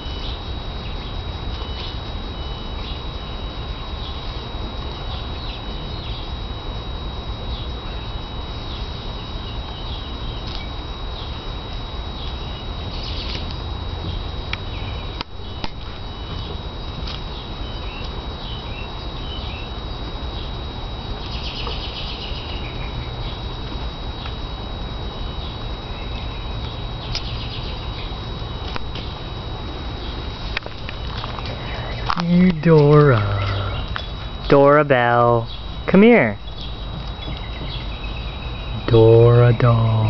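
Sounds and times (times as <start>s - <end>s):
birds chirping: 0.0s - 40.0s
high-pitched whine: 0.0s - 40.0s
steady low rumble: 0.0s - 40.0s.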